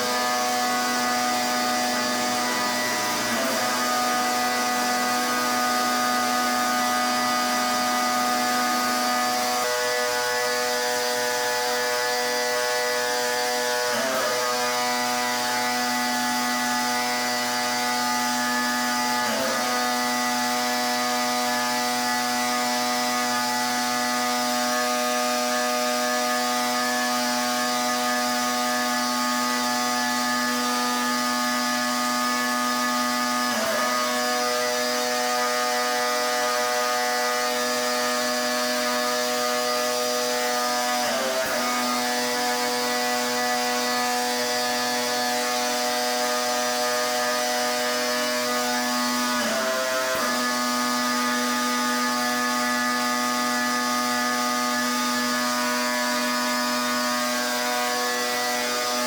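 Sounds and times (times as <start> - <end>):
pressure washer droning whine: 0.0 - 59.0.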